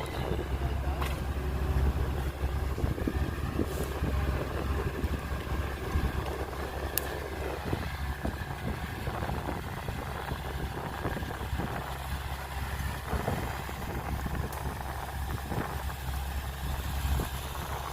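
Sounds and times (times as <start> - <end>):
heavy engine running: 0.0 - 17.9.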